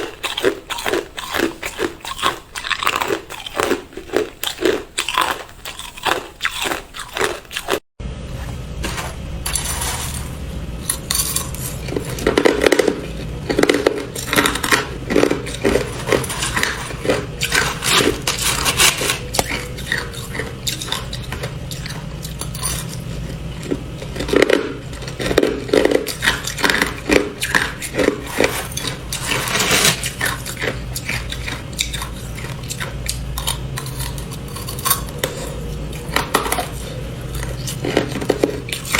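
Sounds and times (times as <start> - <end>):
ice crunching under teeth: 0.0 - 7.8, 10.8 - 38.9
steady low hum: 0.0 - 38.9.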